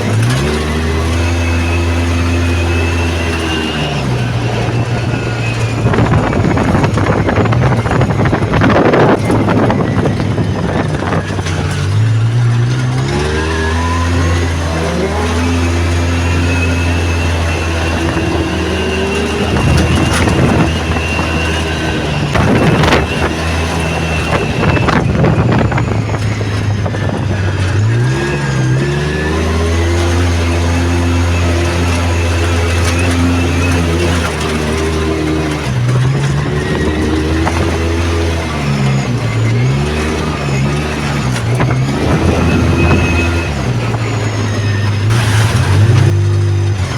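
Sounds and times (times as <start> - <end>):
engine revving through gears: 0.0 - 46.9
rough tyre noise: 0.0 - 46.9
wind noise: 0.0 - 46.9.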